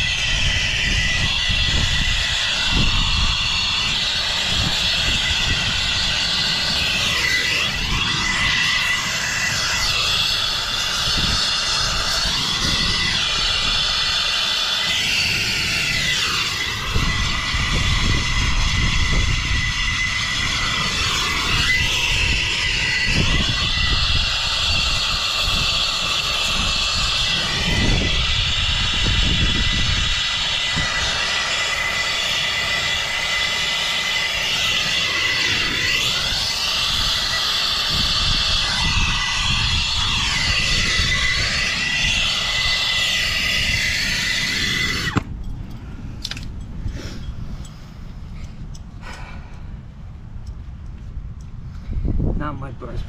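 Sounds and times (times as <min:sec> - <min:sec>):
torch burning with rushing hiss: 0:00.0 - 0:50.5.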